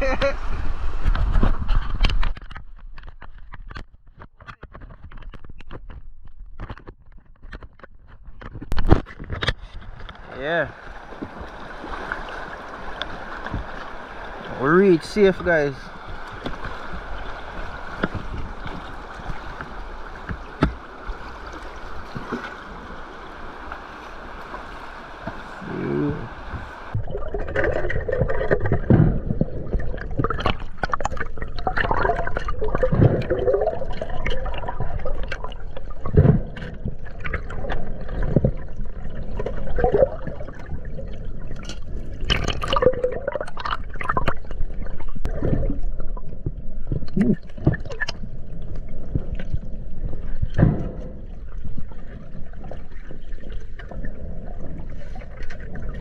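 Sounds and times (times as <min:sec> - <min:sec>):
rushing water: 0:00.0 - 0:02.3, 0:09.6 - 0:56.0
river water gurgling and splashing: 0:00.0 - 0:03.1, 0:08.8 - 0:56.0.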